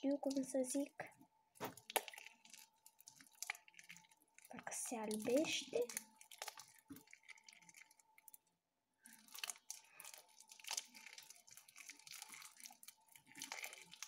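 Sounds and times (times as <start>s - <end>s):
slime crackling and tearing: 1.6s - 8.3s, 9.1s - 14.0s.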